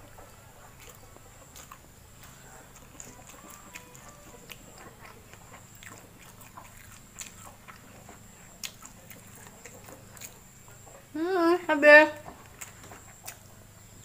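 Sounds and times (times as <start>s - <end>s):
person chewing: 0.0s - 11.2s, 12.2s - 14.0s.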